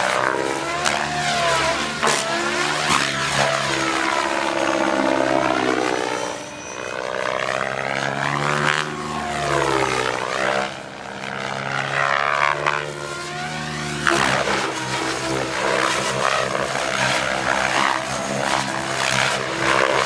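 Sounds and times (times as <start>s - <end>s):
helicopter blade noise bursts: 0.0s - 20.0s
rc helicopter rotor whine: 0.0s - 20.0s.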